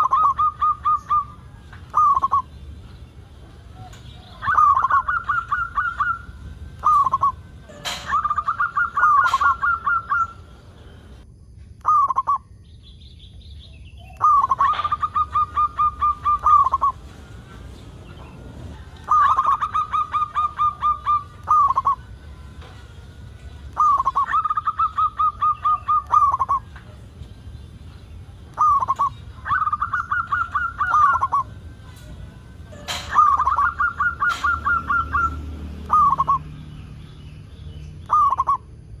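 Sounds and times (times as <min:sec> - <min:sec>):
dove cooing: 0:00.0 - 0:02.6, 0:03.4 - 0:10.6, 0:14.1 - 0:27.0, 0:28.2 - 0:36.5, 0:38.1 - 0:38.6.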